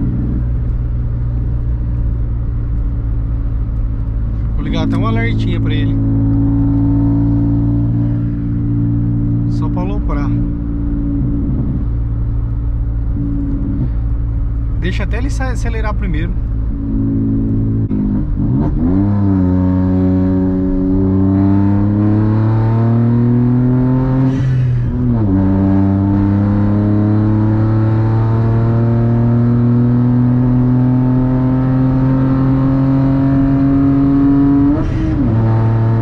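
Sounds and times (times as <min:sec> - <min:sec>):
car engine at full throttle: 0:00.0 - 0:36.0.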